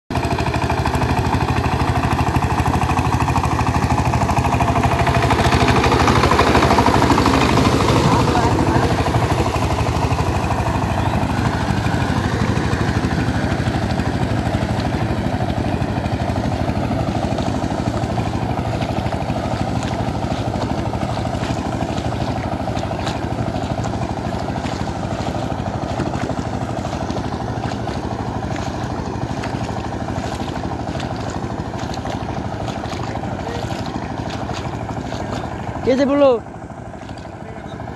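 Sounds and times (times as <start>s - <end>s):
power tiller engine running: 0.1s - 37.9s
tiller churning through mud: 0.1s - 37.9s.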